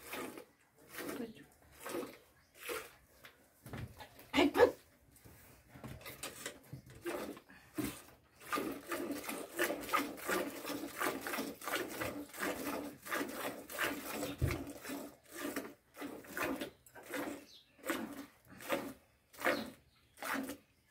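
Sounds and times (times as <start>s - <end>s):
milk squirting into plastic bucket: 0.0s - 3.3s, 6.0s - 20.8s.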